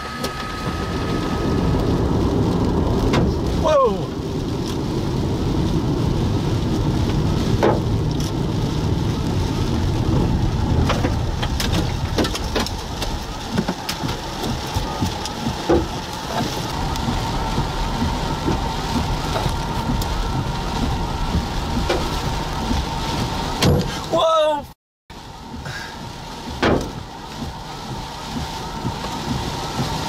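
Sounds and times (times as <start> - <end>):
hailstones ticking on car: 0.0 - 30.0
rain on car: 0.0 - 30.0
road and engine rumble: 0.0 - 30.0.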